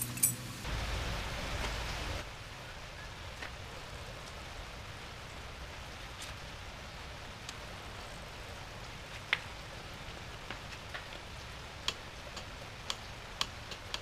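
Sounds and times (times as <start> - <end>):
light rain hissing: 0.0 - 14.0.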